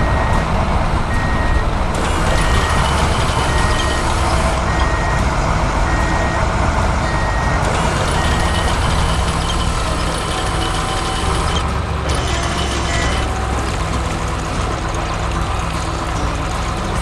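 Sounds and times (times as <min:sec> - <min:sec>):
diesel engine rumble: 0:00.0 - 0:17.0
truck reversing alarm beeping: 0:00.0 - 0:17.0.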